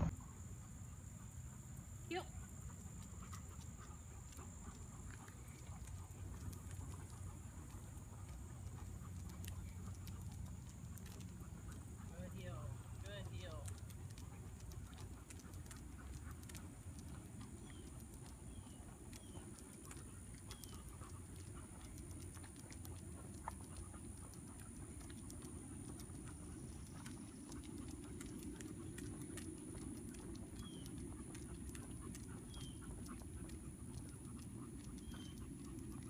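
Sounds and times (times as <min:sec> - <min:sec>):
footsteps on paved path: 0:03.2 - 0:12.1, 0:13.7 - 0:36.0.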